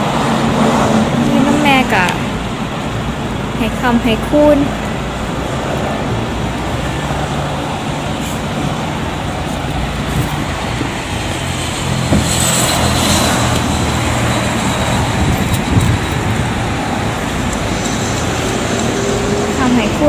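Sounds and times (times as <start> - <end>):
car passing: 0.0 - 20.0
motorcycle passing: 0.0 - 20.0
traffic engine hum and road noise: 0.0 - 20.0.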